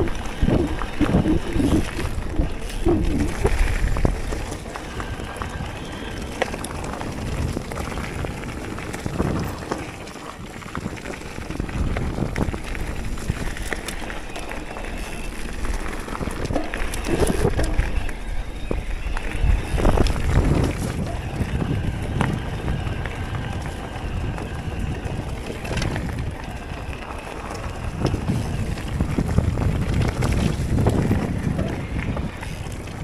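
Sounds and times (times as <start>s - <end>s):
bike rattling over bumps: 0.0s - 33.0s
bike tyres rolling on dirt: 0.0s - 33.0s
wind rumble on microphone: 0.0s - 33.0s.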